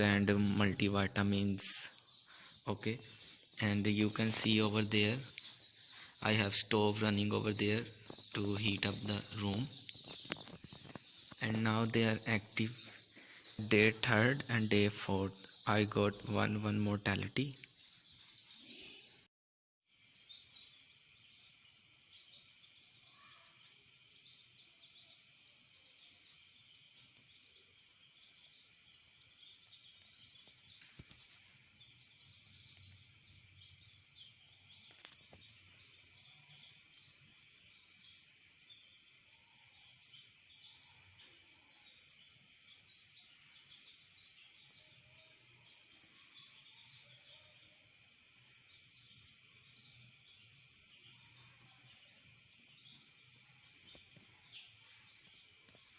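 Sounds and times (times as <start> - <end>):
steady hiss: 0.0 - 19.1, 19.9 - 55.9
chicks cheeping: 0.0 - 19.3, 20.1 - 55.9.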